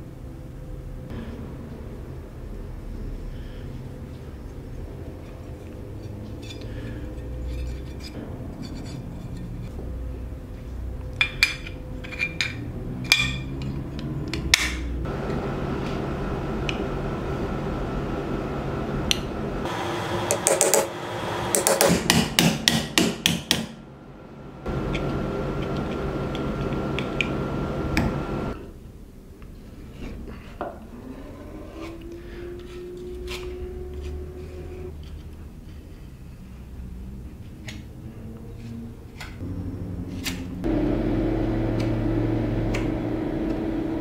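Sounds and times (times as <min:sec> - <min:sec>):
steady background hum: 0:00.0 - 0:44.0.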